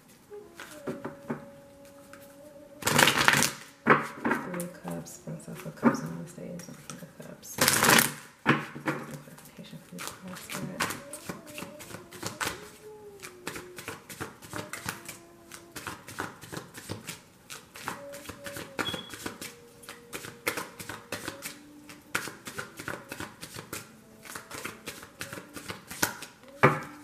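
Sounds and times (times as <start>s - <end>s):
cards being shuffled by hand: 0.0s - 4.8s, 5.5s - 27.0s.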